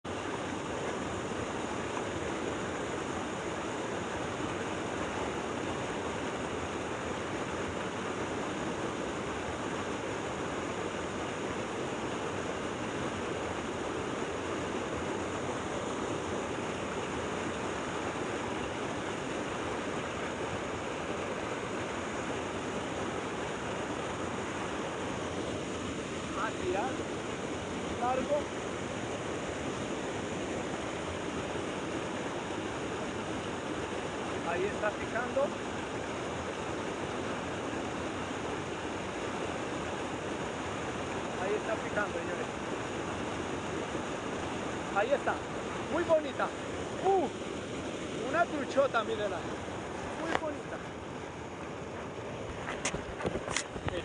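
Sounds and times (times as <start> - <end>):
fast-flowing water rushing: 0.0 - 54.0.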